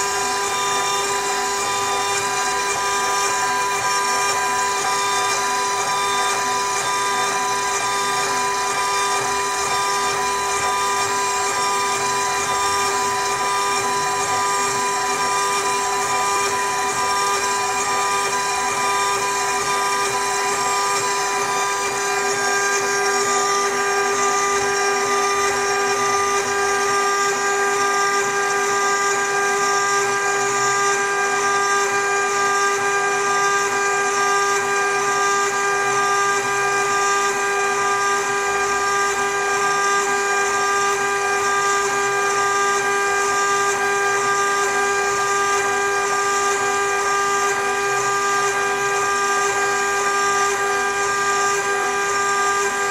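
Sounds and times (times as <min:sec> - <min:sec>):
router spindle whine: 0:00.0 - 0:52.9.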